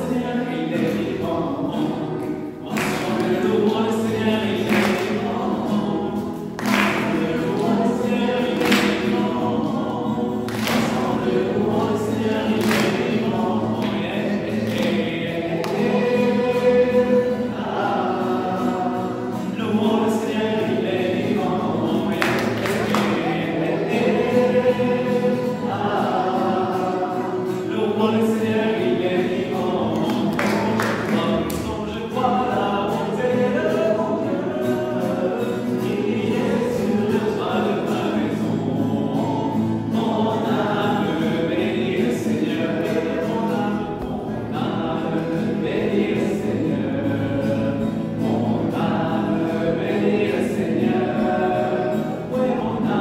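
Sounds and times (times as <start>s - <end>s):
congregation singing a hymn: 0.0s - 53.0s.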